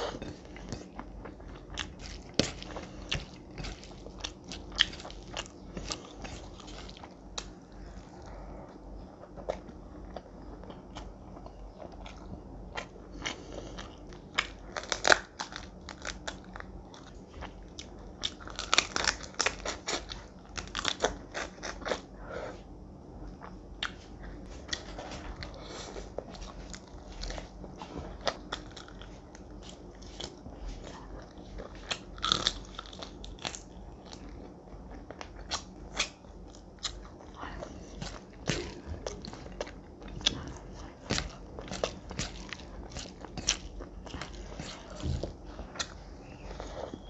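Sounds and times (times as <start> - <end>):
chewing and crunching food: 0.0 - 47.0.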